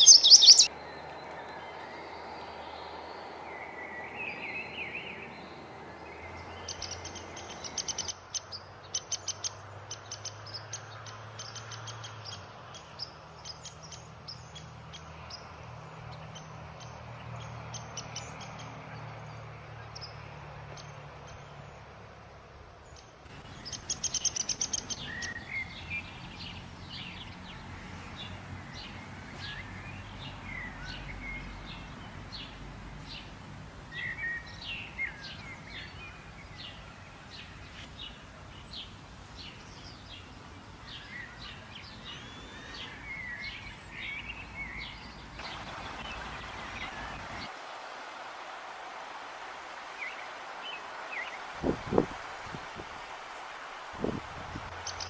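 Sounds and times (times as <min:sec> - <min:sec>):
birds chirping: 0:00.0 - 0:47.6, 0:48.4 - 0:55.0
faint steady background noise: 0:00.0 - 0:55.0.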